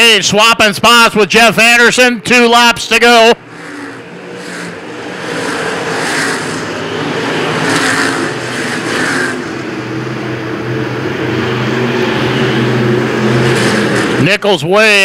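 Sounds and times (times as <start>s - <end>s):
stock car engines racing: 0.2s - 15.0s.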